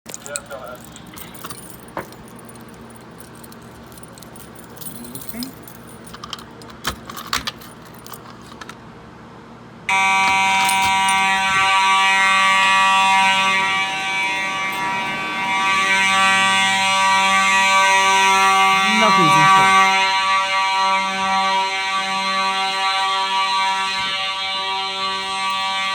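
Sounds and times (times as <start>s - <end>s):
buzzy fire alarm horns: 0.2s - 6.0s, 9.9s - 25.9s.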